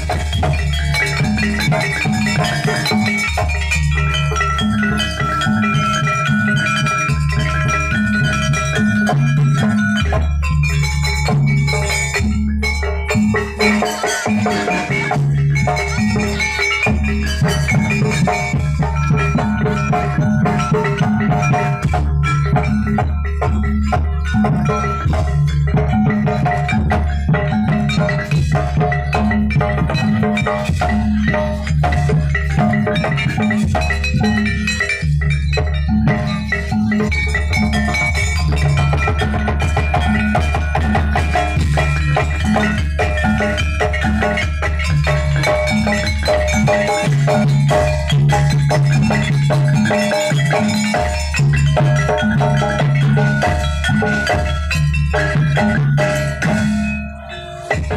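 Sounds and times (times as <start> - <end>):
drums: 0.0 - 57.9
tuned metal percussion melody: 0.0 - 57.9.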